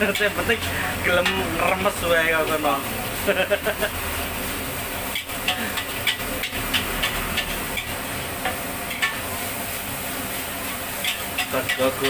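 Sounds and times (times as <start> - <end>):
fried rice sizzling in a wok: 0.0 - 12.0.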